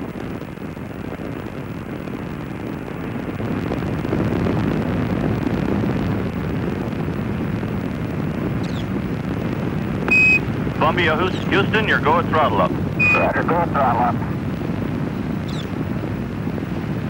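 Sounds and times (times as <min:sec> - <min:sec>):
rocket exhaust rumble: 0:00.0 - 0:17.0.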